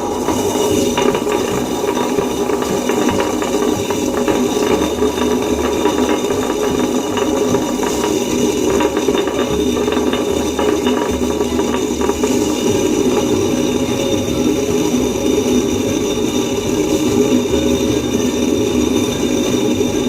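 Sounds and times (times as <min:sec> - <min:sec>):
rattling of rice grains: 0:00.0 - 0:20.0
wet grinder humming: 0:00.0 - 0:20.0.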